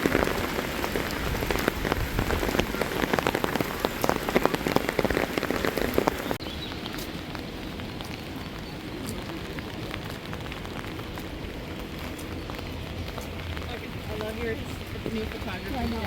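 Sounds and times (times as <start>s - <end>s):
close raindrops hitting surface: 0.0s - 16.0s
steady rain hiss: 0.0s - 16.0s.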